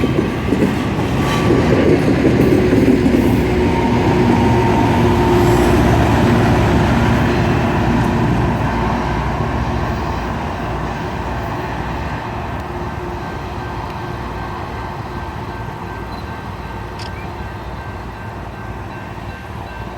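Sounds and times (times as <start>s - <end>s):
rail grinder train rumbling: 0.0s - 19.9s.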